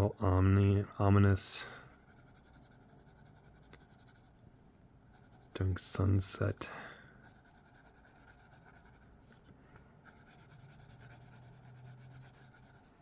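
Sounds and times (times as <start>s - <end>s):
drawing tool scratching on paper: 0.0s - 4.4s, 5.1s - 9.4s, 10.0s - 13.0s
faint low hum: 0.0s - 13.0s.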